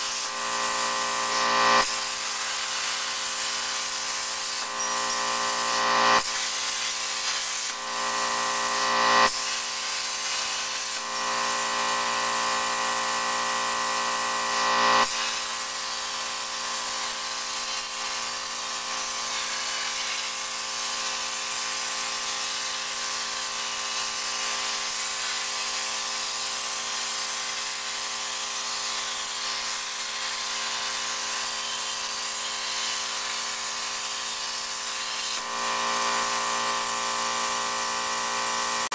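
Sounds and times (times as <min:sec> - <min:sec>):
plasma arc hissing: 0:00.0 - 0:13.0, 0:13.8 - 0:38.9.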